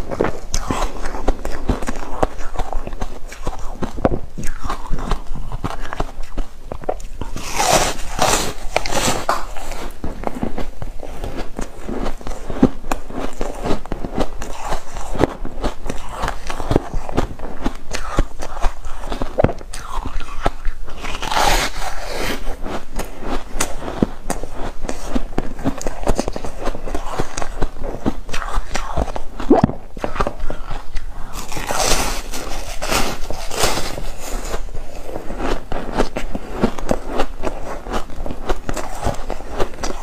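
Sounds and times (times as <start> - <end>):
crunching frozen foam ice: 7.0 - 40.0.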